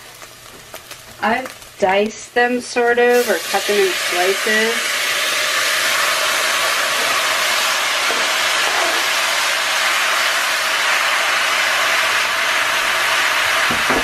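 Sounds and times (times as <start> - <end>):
tomatoes sizzling in oil: 0.0 - 14.0.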